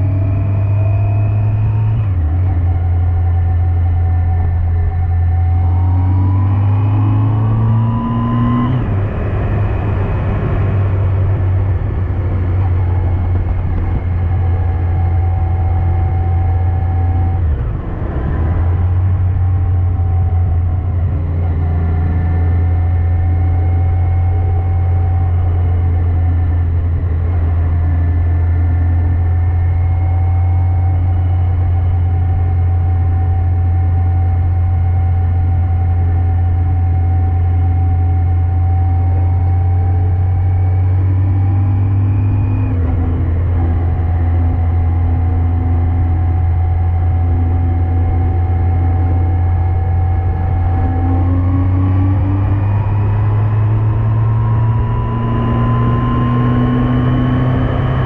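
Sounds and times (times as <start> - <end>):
motorcycle engine humming: 0.0 - 58.0.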